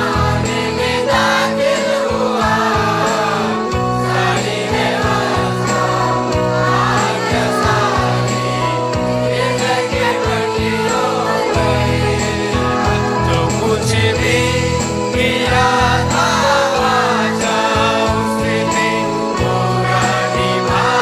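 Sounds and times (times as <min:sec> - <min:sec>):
backing band with bass: 0:00.0 - 0:21.0
person singing worship song: 0:00.0 - 0:21.0.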